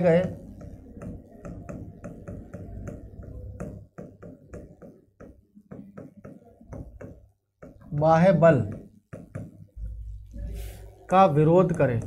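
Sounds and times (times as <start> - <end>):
marker pen writing on whiteboard: 0.0 - 12.0.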